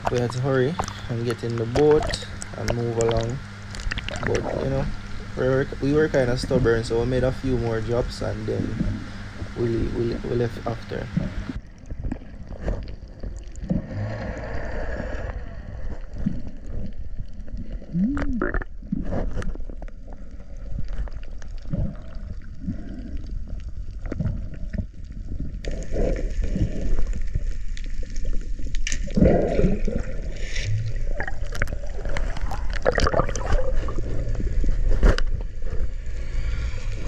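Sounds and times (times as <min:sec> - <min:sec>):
water gurgling and sloshing: 0:00.0 - 0:37.0.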